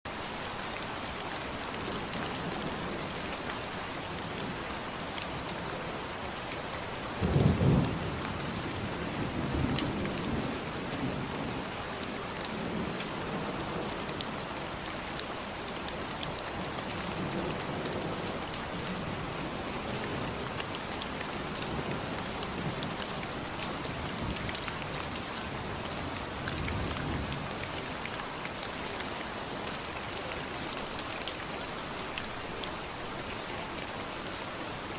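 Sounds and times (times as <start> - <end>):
steady rain pattering: 0.1 - 34.9.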